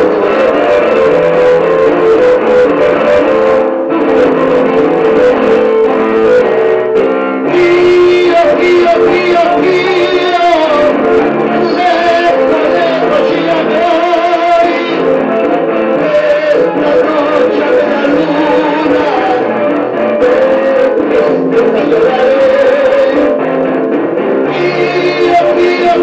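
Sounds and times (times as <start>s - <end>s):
man singing into microphone: 0.0s - 6.5s, 7.4s - 26.0s
guitar accompaniment: 0.0s - 26.0s.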